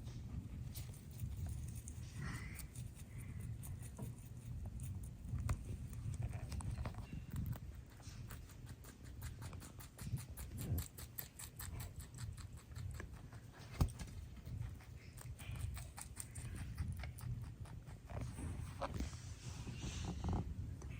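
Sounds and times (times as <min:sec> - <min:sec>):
rabbits crunching greens: 0:00.0 - 0:20.0.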